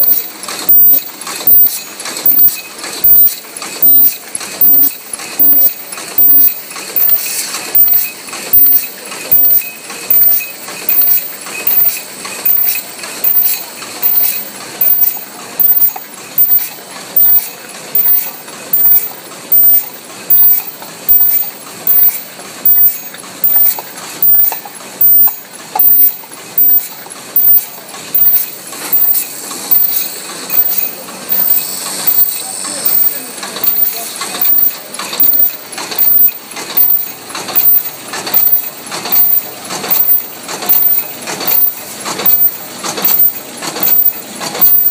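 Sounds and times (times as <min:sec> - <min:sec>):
paper cup machine clacking: 0:00.0 - 0:44.9.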